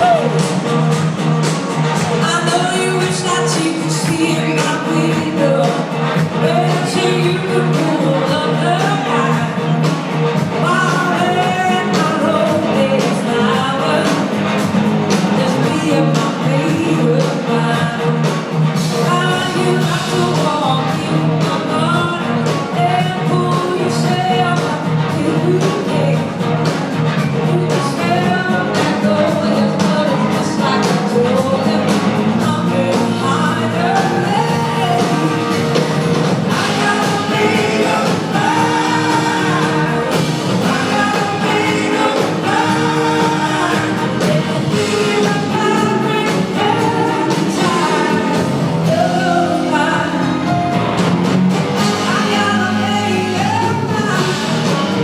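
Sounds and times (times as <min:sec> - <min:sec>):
person singing: 0:00.0 - 0:50.8, 0:51.8 - 0:55.0
blues-rock band playing: 0:00.0 - 0:55.0
steady drum beat: 0:00.0 - 0:55.0.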